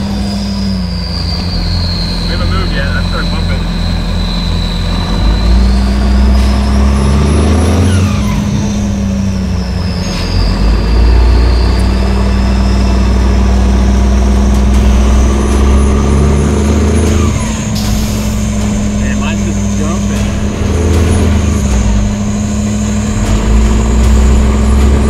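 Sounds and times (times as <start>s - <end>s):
diesel truck engine straining: 0.0s - 25.0s.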